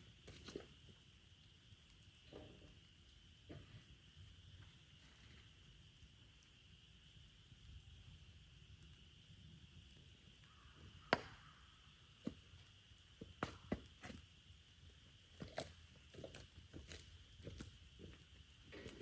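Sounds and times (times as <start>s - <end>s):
faint high-pitched hum: 0.0s - 19.0s.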